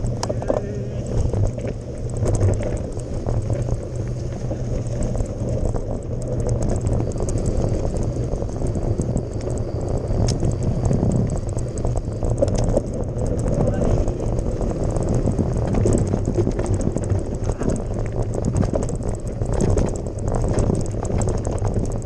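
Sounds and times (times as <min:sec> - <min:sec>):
bike tyres on gravel: 0:00.0 - 0:22.0
stones and bike rattling: 0:00.0 - 0:22.0.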